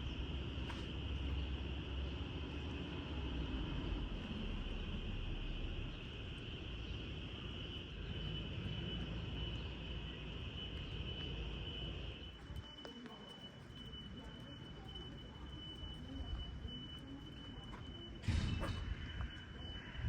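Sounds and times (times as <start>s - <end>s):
insects droning: 0.0s - 20.0s
low rumble of distant traffic: 0.0s - 20.0s.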